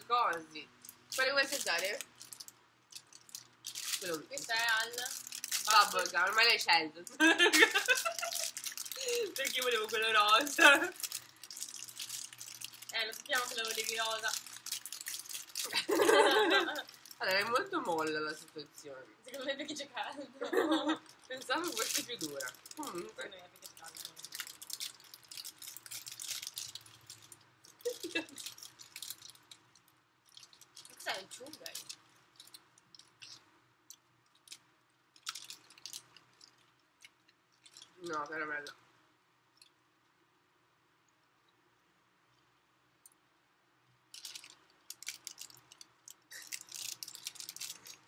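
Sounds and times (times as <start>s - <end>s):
crackly rustling and sharp clicks: 0.0s - 19.8s, 20.5s - 40.2s, 41.0s - 48.0s
candy wrappers crinkling: 0.0s - 19.9s, 20.5s - 38.8s, 44.0s - 48.0s.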